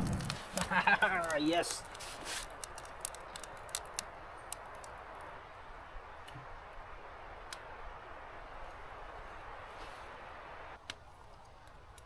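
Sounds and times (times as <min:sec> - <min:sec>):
fire popping: 0:00.0 - 0:12.0
wood fire crackling: 0:00.0 - 0:12.0.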